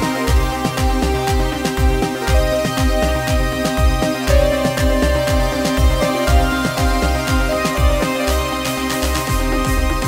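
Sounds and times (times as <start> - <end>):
deep electronic drum beat: 0.0 - 10.0
sustained synth chords: 0.0 - 10.0.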